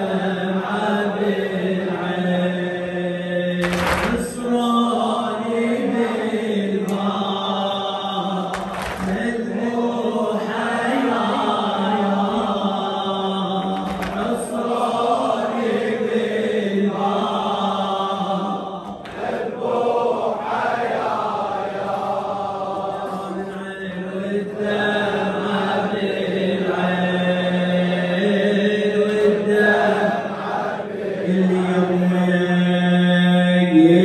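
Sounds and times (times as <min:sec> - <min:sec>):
man chanting into a microphone: 0:00.0 - 0:19.6, 0:21.6 - 0:34.0.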